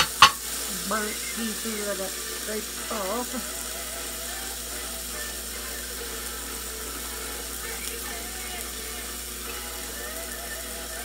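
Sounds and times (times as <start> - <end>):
burger patties sizzling on grill: 0.0 - 11.0.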